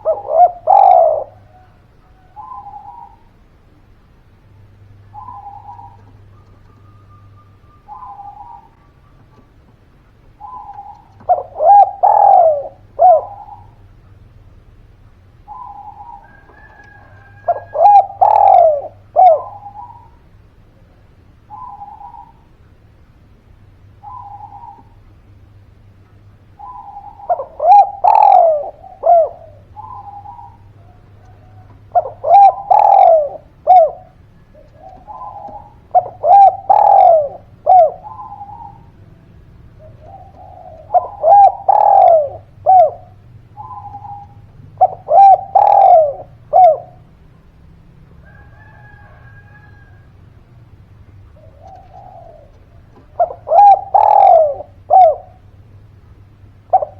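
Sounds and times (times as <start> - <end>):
dove cooing: 0.0 - 14.3, 15.4 - 22.6, 23.8 - 25.4, 26.4 - 56.9.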